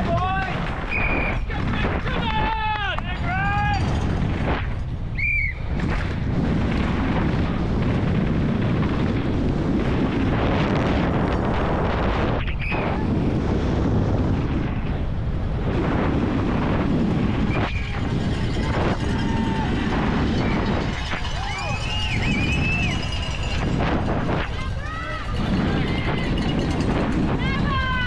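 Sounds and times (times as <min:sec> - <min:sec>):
bike tyres rumbling over gravel: 0:00.0 - 0:12.4, 0:13.3 - 0:28.0
wind buffeting microphone: 0:00.0 - 0:28.0.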